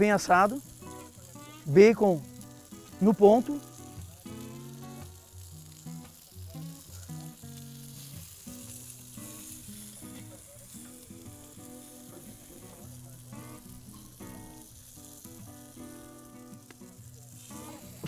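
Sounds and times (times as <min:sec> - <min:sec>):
meat sizzling on a griddle: 0:00.0 - 0:18.0.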